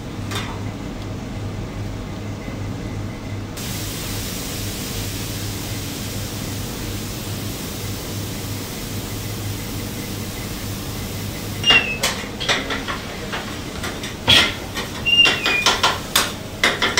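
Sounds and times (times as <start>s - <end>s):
kitchen machinery hum and hiss: 0.0s - 16.9s.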